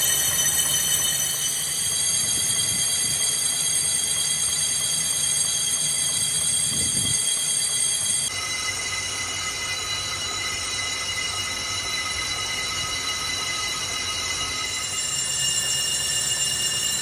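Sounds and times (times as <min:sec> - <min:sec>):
metal lathe squealing: 0:00.0 - 0:17.0.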